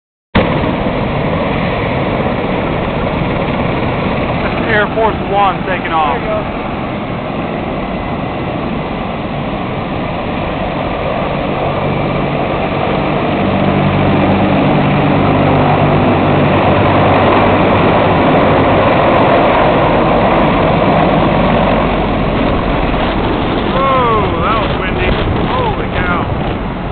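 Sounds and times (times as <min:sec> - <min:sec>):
helicopter flying overhead: 0:00.4 - 0:26.9.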